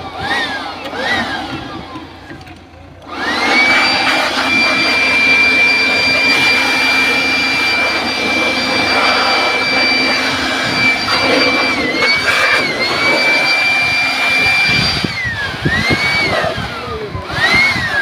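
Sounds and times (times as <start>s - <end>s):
electric air blower running: 0.0s - 18.0s.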